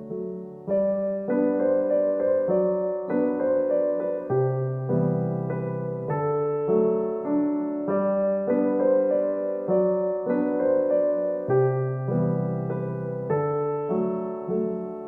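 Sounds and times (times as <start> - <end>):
slow soft piano melody: 0.0 - 15.0.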